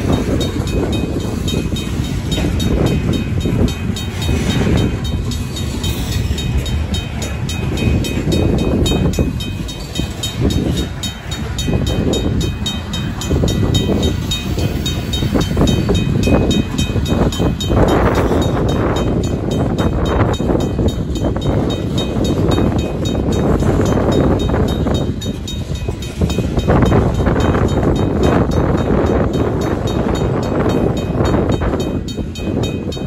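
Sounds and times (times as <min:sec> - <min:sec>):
crossing bell ringing: 0:00.0 - 0:33.0
freight cars rolling on rails: 0:00.0 - 0:33.0.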